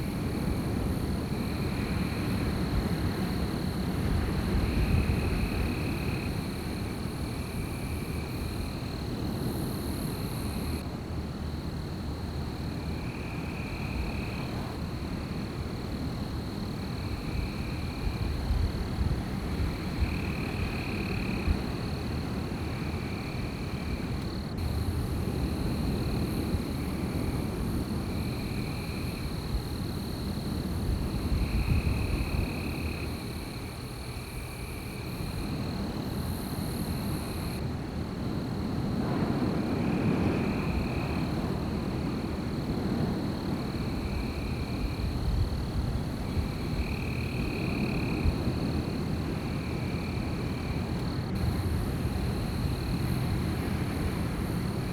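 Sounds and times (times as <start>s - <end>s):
wind blowing in gusts: 0.0s - 54.9s.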